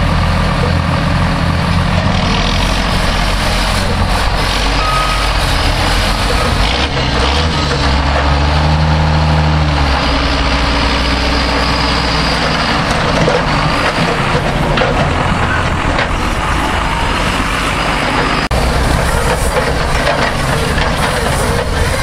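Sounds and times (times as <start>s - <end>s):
tractor diesel engine passing: 0.0s - 22.0s.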